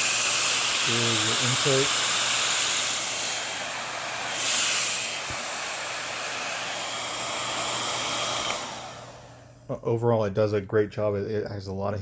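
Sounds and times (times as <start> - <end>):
hair dryer blowing air: 0.0 - 9.6.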